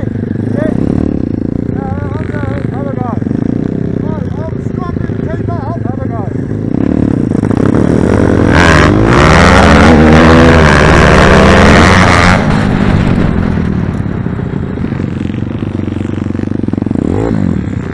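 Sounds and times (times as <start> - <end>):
motorbike engine revving: 0.0 - 17.9.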